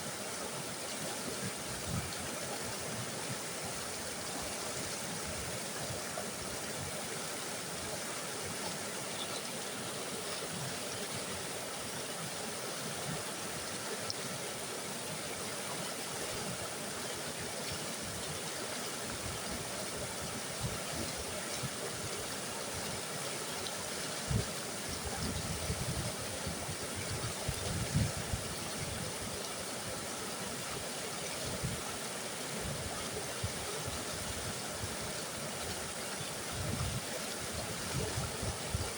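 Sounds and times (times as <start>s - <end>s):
river water roaring: 0.0s - 38.9s.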